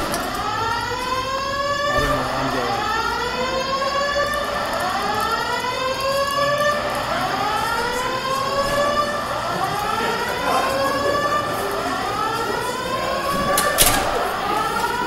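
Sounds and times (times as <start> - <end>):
electronic alarm siren: 0.0 - 15.0.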